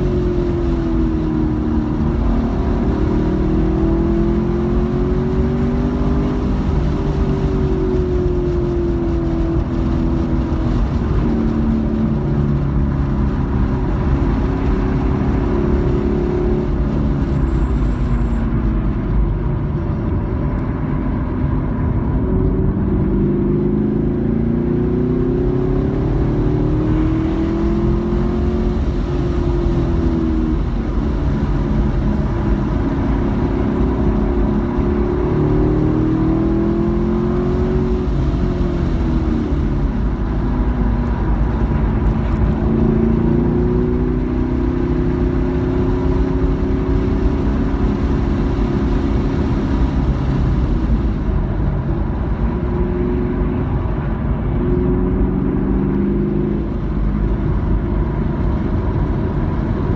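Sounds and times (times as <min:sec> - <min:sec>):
car engine revving: 0:00.0 - 0:59.9
road noise: 0:00.0 - 0:59.9.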